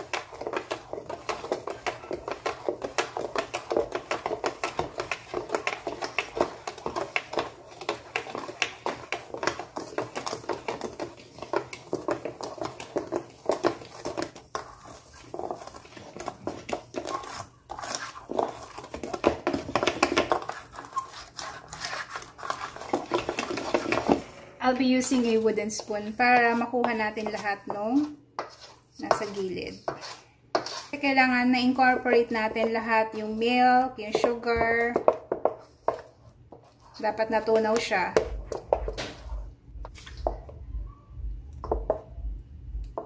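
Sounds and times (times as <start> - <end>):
whisk scraping a steel bowl: 0.0 - 38.0.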